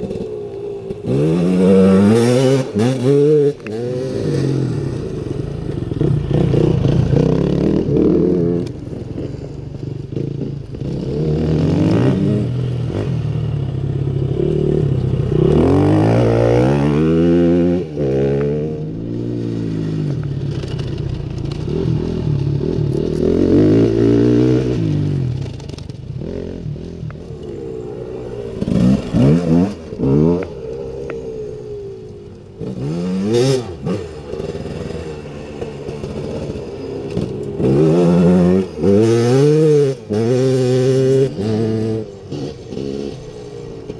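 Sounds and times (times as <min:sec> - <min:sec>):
dirt bike engine revving: 0:00.0 - 0:09.2, 0:10.1 - 0:43.9.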